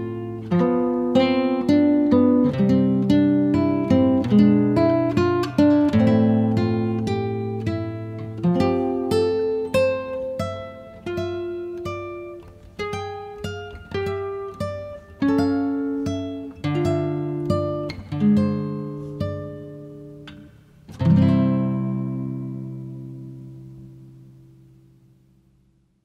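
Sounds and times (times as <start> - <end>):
acoustic guitar melody: 0.0 - 25.8.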